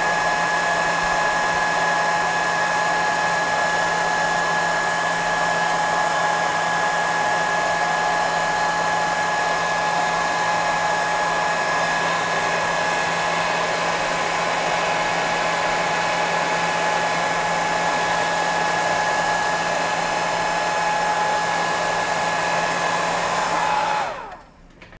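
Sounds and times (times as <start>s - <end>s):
heat gun blowing air: 0.0s - 24.5s.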